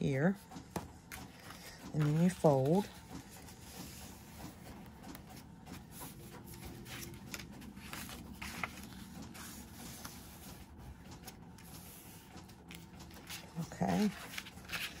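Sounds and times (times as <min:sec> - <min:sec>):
low steady background hum: 0:00.0 - 0:15.0
paper rustling and folding: 0:00.3 - 0:15.0.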